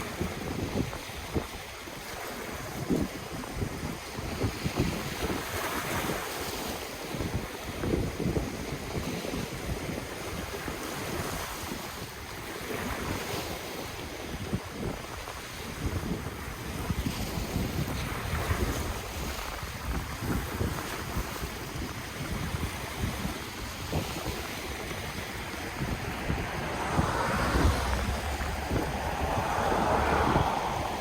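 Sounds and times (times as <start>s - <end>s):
ocean waves washing onto shore: 0.0s - 31.0s
wind buffeting microphone: 0.0s - 31.0s.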